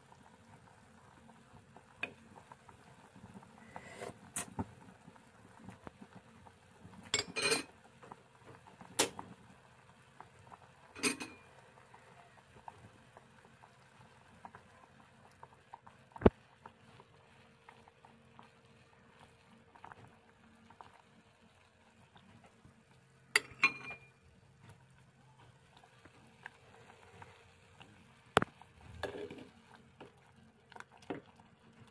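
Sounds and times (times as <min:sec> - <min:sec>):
stew bubbling: 0:00.0 - 0:31.9.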